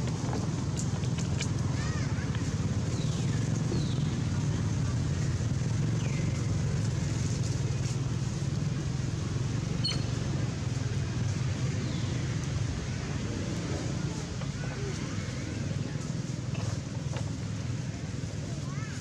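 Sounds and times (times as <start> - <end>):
steady low rumble: 0.0 - 18.6.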